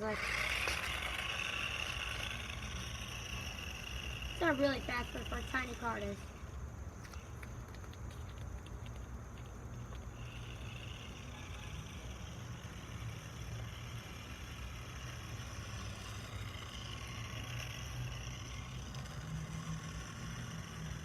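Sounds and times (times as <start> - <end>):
toy car motor whining: 0.0 - 21.0.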